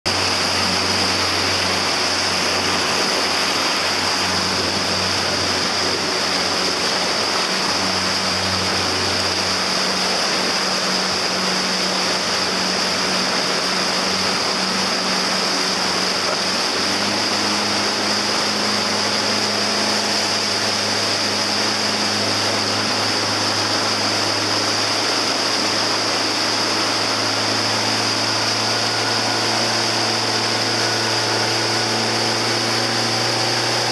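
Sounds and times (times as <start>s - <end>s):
motorboat engine running: 0.1s - 33.9s
water churning in wake: 0.1s - 33.9s.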